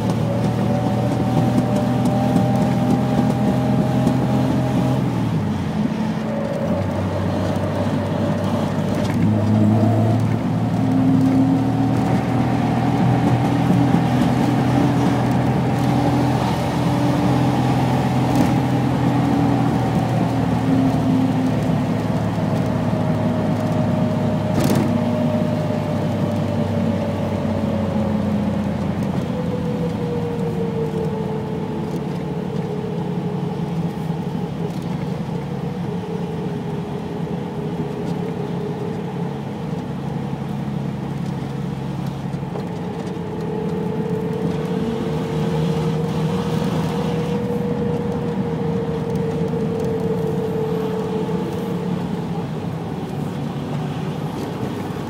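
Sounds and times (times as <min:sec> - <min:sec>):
car engine running: 0:00.0 - 0:55.0
road and wind noise: 0:00.0 - 0:55.0.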